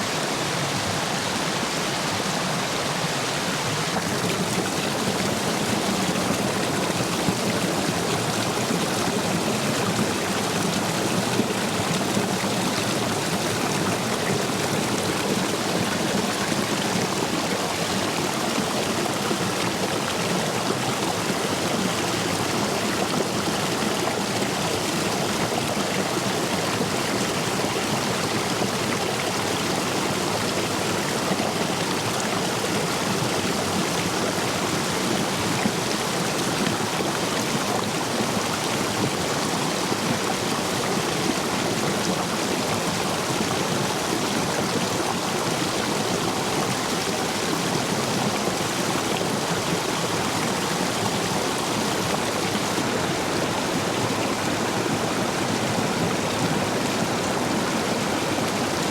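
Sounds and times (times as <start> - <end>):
stream water rushing over stones: 0.0 - 58.9.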